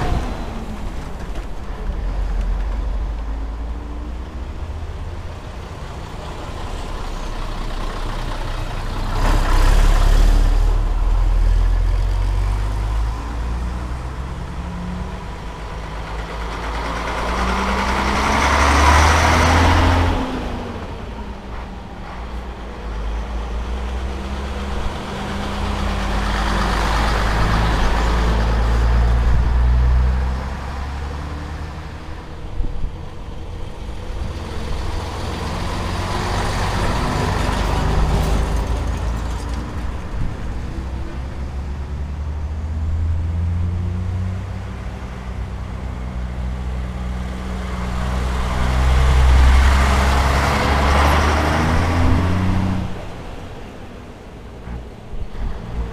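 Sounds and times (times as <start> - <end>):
diesel trucks driving by: 0.0 - 55.9.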